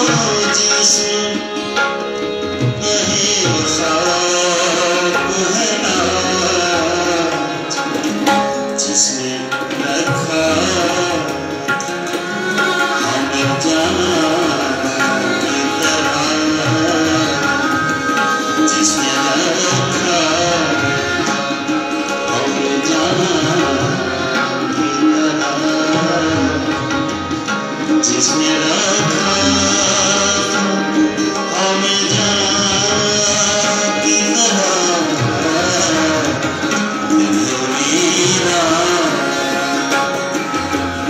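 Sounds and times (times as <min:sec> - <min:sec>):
harmonium held notes: 0:00.0 - 0:41.0
tabla rhythm: 0:00.0 - 0:41.0.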